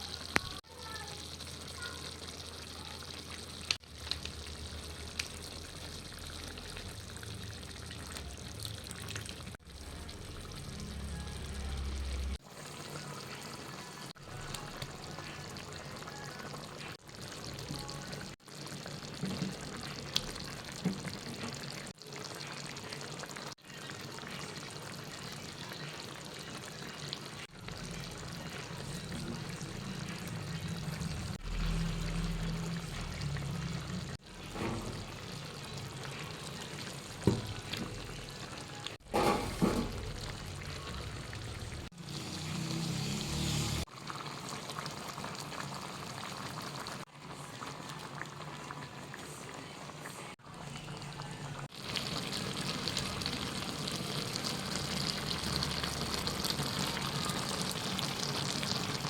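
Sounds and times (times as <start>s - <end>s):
stew bubbling in pot: 0.0s - 59.0s.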